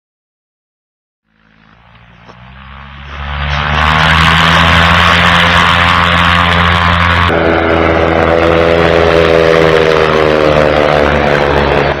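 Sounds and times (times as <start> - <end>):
light aircraft engine and propeller: 1.3 - 12.0.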